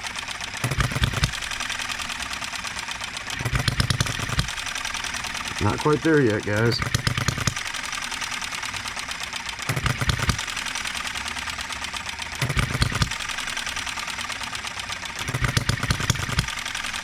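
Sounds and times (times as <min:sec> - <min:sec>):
model engine clattering and firing: 0:00.0 - 0:17.0.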